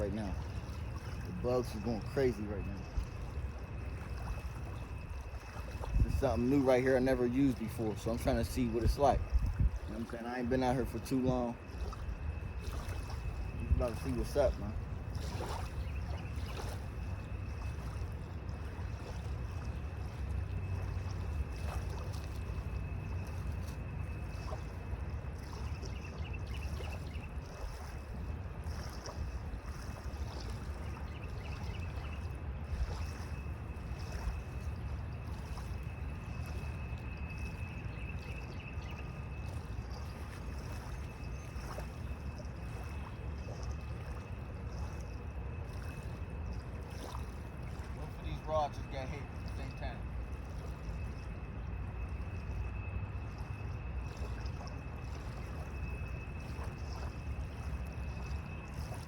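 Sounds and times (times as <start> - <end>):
insects droning and trilling: 0.0 - 59.0
river: 0.0 - 59.0
wind: 0.0 - 59.0.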